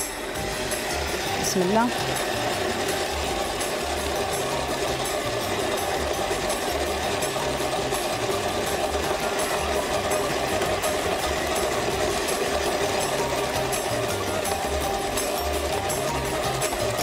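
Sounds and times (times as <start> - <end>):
stand mixer running: 0.0 - 17.0.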